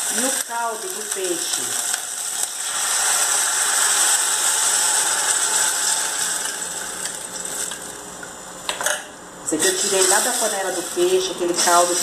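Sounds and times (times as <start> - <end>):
broth sizzling in hot oil: 0.0 - 8.2, 9.6 - 12.0.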